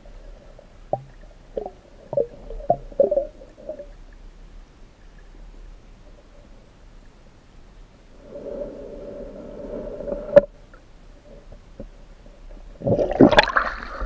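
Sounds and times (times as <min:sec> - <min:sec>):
low underwater hum: 0:00.0 - 0:14.0.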